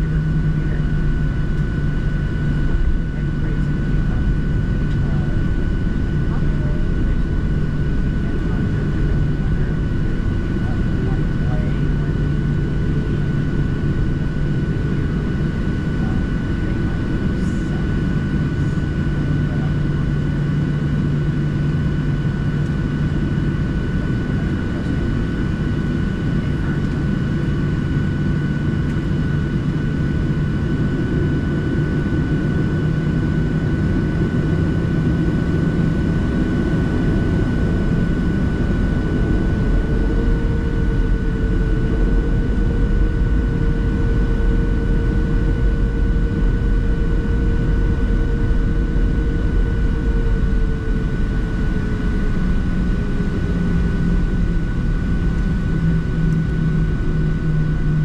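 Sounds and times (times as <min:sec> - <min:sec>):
high engine whine: 0:00.0 - 0:58.0
jet engines rumbling in cabin: 0:00.0 - 0:58.0.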